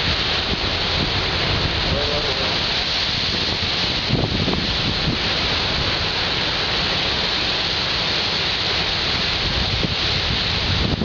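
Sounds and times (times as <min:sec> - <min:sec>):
wind buffeting microphone: 0:00.0 - 0:07.6, 0:08.9 - 0:11.0
sea surf rushing at shore: 0:00.0 - 0:11.0.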